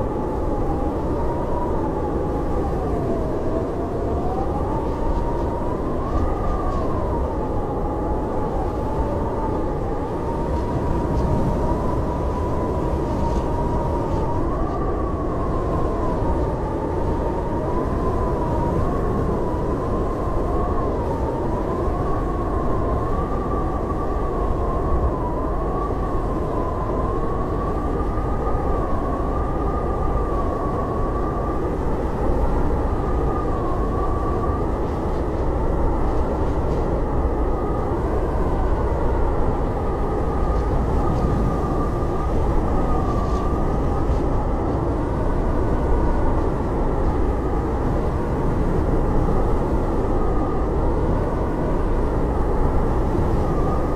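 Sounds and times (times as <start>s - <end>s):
howling blizzard wind: 0.0s - 53.9s.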